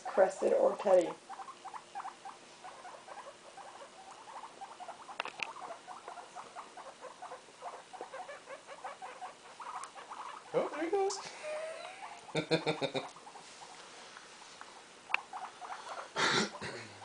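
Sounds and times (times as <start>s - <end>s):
guinea pigs squeaking: 0.0s - 16.7s.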